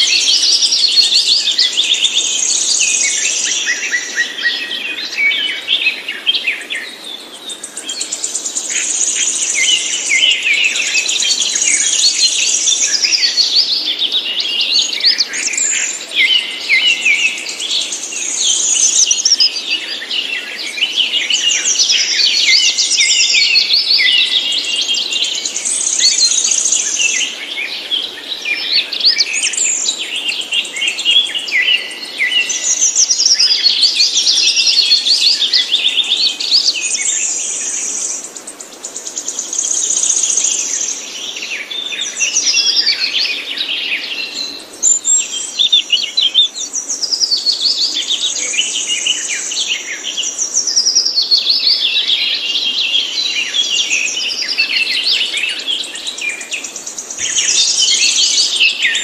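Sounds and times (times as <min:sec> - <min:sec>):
songbird chirping and trilling: 0:00.0 - 0:59.0.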